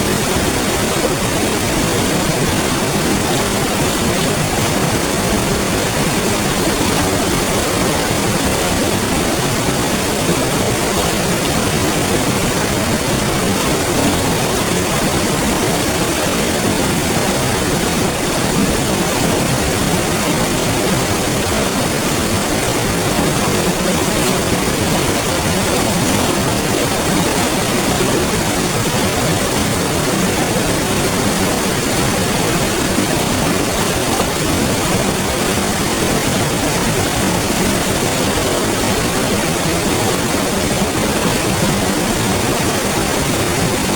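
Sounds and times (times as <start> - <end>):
river water flowing over rocks: 0.0 - 43.9.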